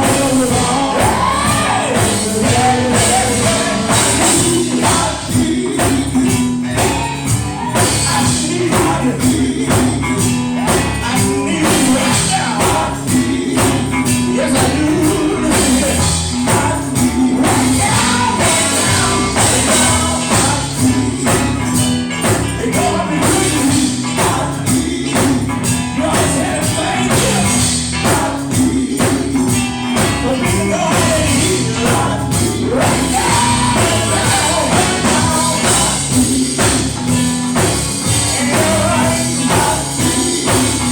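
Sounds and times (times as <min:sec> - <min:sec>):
band with driving beat: 0:00.0 - 0:40.9
voices singing gospel: 0:00.0 - 0:40.9.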